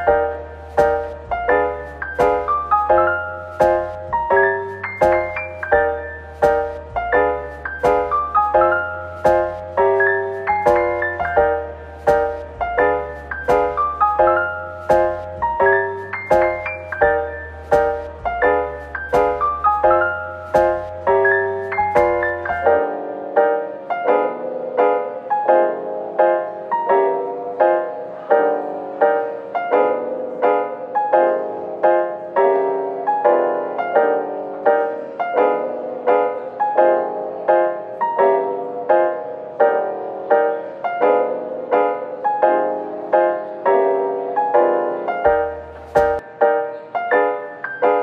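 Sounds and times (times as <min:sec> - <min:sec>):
light piano tune: 0:00.0 - 0:48.0.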